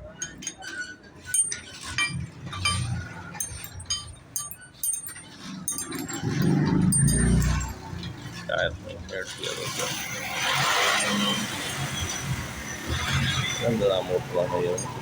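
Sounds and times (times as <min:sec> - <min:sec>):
metal tools clinking: 0:00.0 - 0:08.5, 0:09.3 - 0:15.0.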